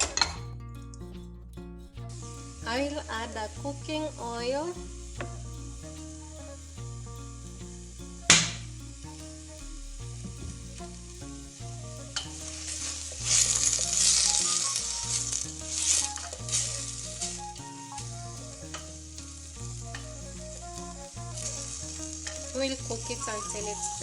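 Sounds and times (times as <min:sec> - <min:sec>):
onions sizzling in a pan: 0:02.1 - 0:24.0.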